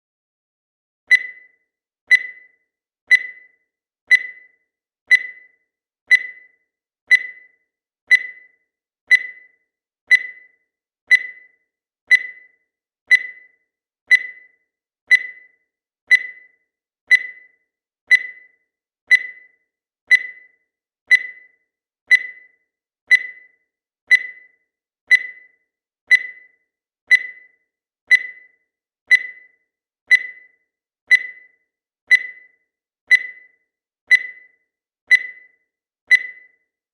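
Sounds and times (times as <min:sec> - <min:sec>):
digital timer beeping: 0:01.1 - 0:36.9.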